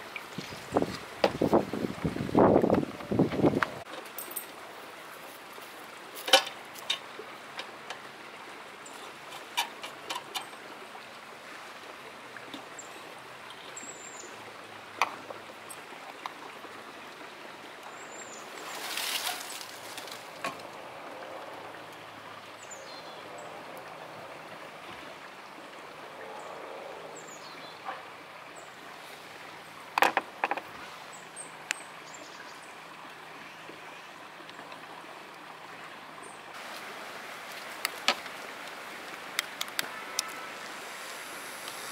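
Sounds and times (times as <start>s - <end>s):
outdoor background noise: 0.0s - 41.9s.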